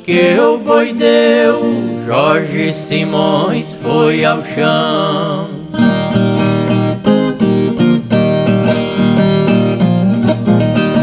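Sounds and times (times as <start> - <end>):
acoustic strings plucked and strummed: 0.0 - 11.0.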